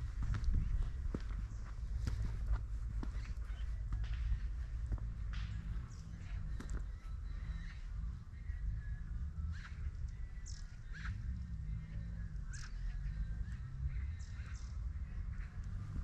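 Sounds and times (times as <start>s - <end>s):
low steady rumble: 0.0s - 16.0s
birds chirping and calling: 0.2s - 16.0s.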